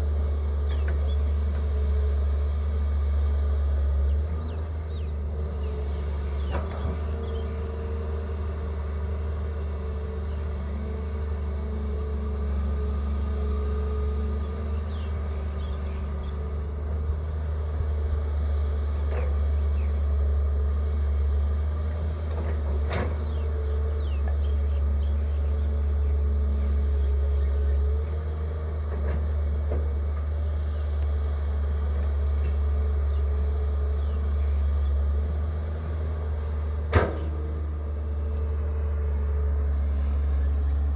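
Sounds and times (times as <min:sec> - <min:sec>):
excavator diesel engine whining: 0:00.0 - 0:40.9.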